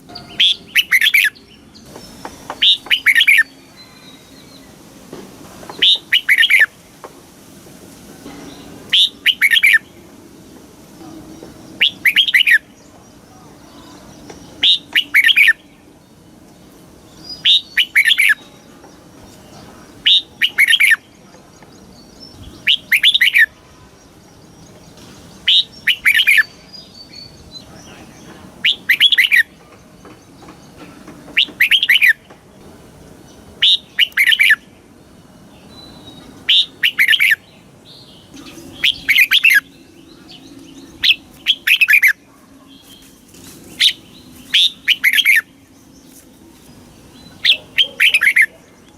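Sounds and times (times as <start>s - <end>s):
bird warbling song: 0.0s - 4.9s, 5.6s - 7.0s, 8.2s - 48.9s.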